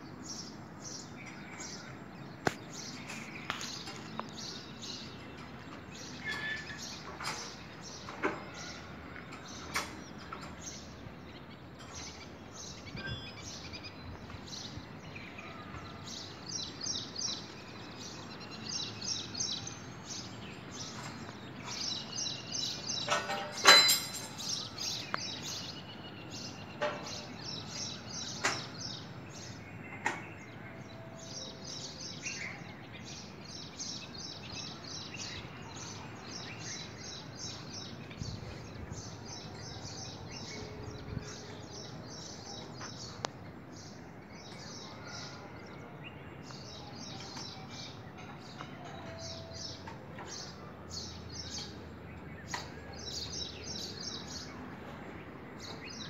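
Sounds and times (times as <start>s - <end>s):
small birds chirping rapidly: 0.0s - 48.6s
steady outdoor hiss: 0.0s - 56.0s.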